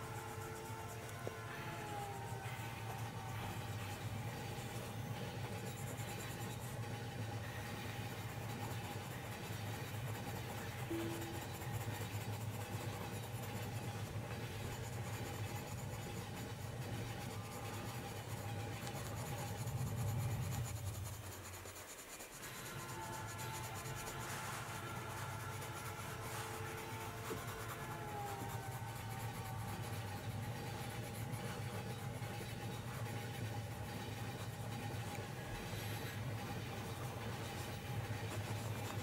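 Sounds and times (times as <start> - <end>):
pencil scratching on paper: 0.0 - 39.0.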